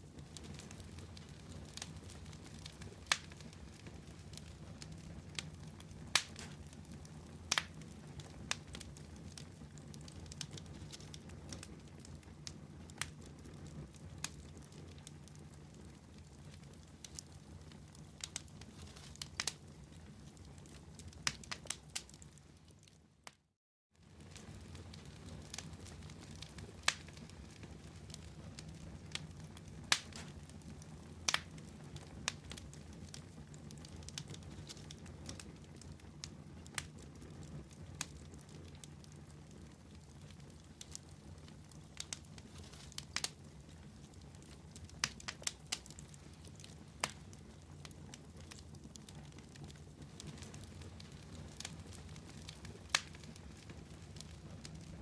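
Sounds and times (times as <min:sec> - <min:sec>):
campfire burning and crackling: 0:00.0 - 0:55.0.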